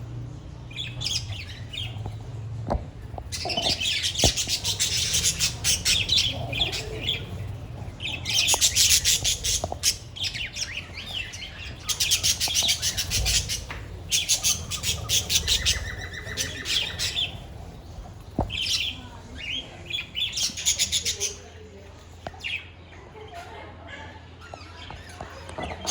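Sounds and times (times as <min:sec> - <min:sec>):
budgerigars chattering and squawking: 0:00.4 - 0:21.6.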